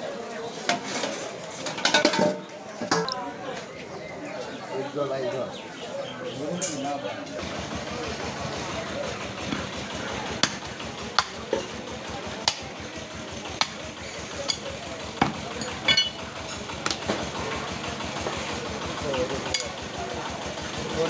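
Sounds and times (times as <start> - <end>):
street traffic hum: 0.0 - 21.0.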